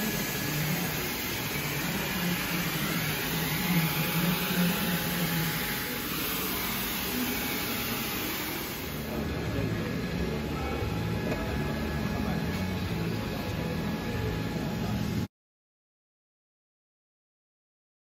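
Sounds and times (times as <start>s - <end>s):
workshop background hiss: 0.0s - 15.3s.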